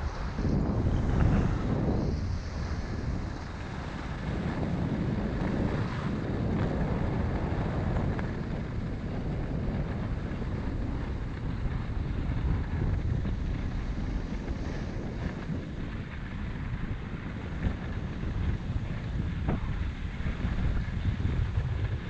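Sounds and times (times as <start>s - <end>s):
skis sliding on snow: 0.0s - 22.0s
wind buffeting microphone: 0.0s - 22.0s.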